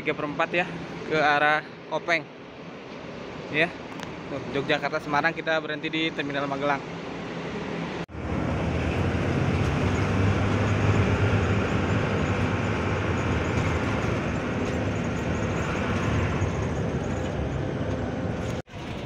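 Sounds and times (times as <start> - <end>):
bus engine drone: 0.0 - 19.0
road and air-conditioning rush: 0.0 - 19.0.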